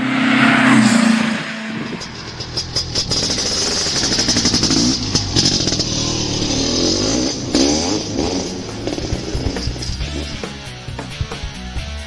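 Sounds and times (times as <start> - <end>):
engine revving: 0.0 - 11.8.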